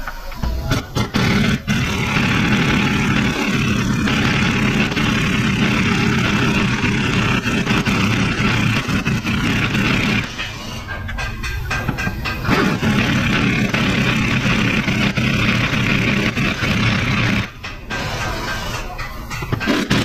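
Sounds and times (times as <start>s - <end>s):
pneumatic impact wrench: 0.4s - 11.0s, 11.7s - 20.0s.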